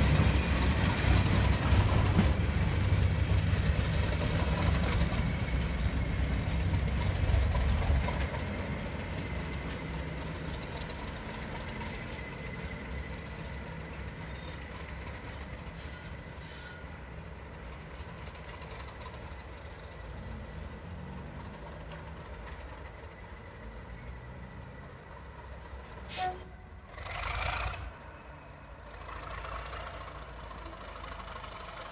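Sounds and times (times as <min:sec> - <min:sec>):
diesel locomotive engine running: 0:00.0 - 0:31.9.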